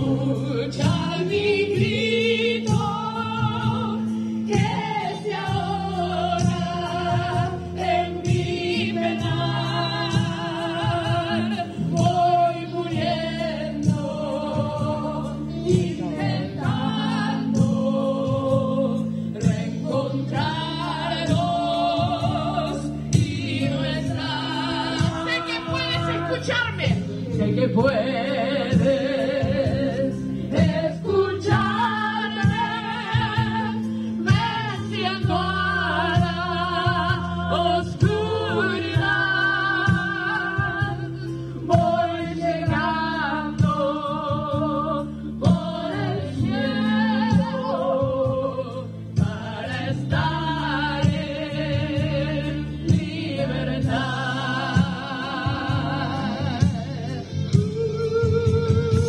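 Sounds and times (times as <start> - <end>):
choir singing slow song: 0.0 - 59.0.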